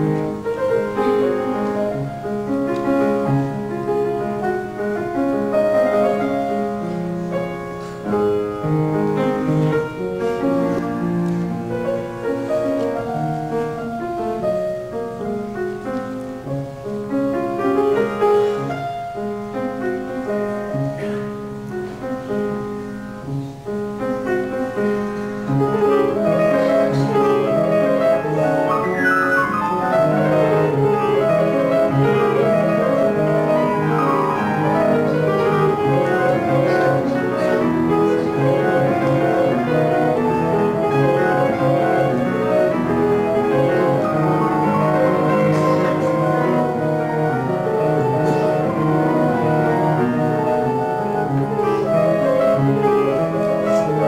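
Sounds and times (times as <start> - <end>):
solo grand piano piece: 0.0 - 54.0.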